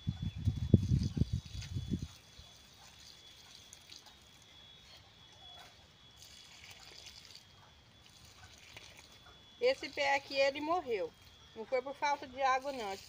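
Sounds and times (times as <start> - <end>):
thin steady high tone: 0.0 - 13.0.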